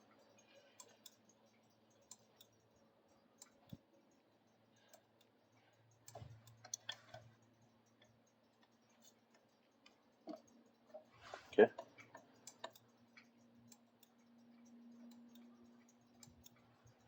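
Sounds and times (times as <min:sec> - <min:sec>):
faint clicks and taps: 0:00.0 - 0:17.0.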